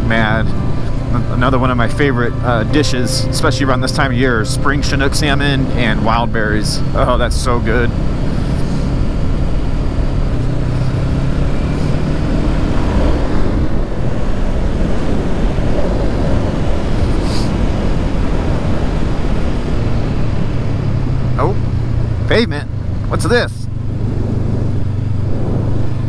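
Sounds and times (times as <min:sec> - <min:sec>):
motorcycle engine running: 0:00.0 - 0:26.0
wind noise: 0:03.7 - 0:26.0.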